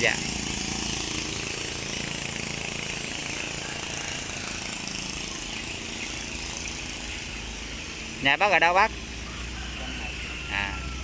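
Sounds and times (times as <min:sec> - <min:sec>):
engine drone with hiss: 0:00.0 - 0:11.0.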